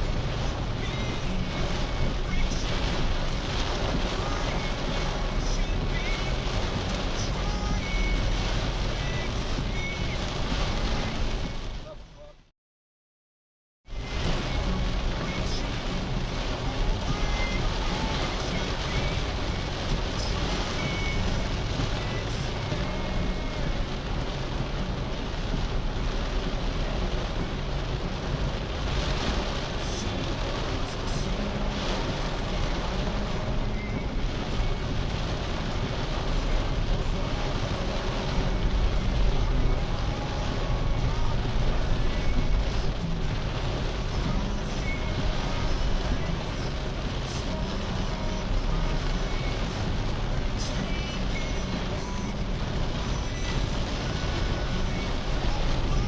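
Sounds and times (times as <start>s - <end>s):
car engine: 0.0s - 12.5s, 13.9s - 56.0s
heavy rain rushing: 0.0s - 12.5s, 13.8s - 56.0s
tyres on wet road: 0.0s - 12.5s, 13.9s - 56.0s.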